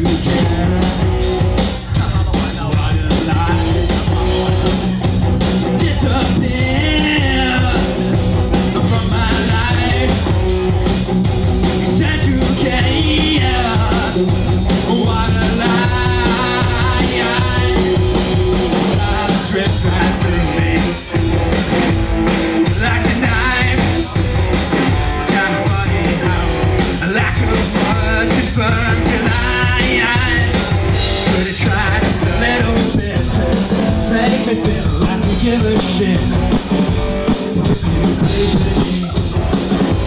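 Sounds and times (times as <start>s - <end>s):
live rock band playing: 0.0s - 40.0s.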